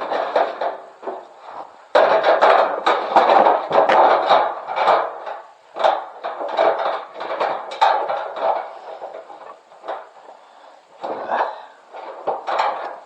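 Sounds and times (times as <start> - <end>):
hard objects knocking and clattering: 0.0 - 10.4, 11.0 - 13.0.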